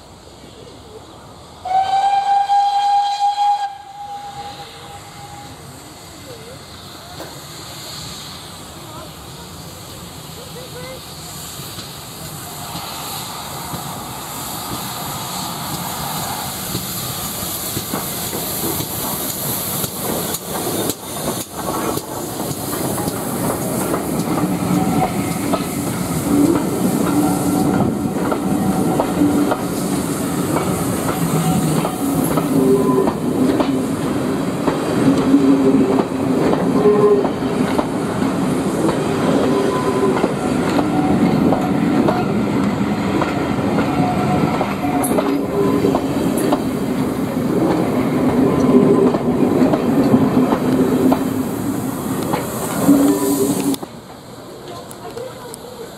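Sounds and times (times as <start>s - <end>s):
steam hiss: 0.0s - 55.9s
steam train passing: 0.0s - 55.9s
clickety-clack of train wheels: 7.1s - 7.4s, 9.8s - 55.9s.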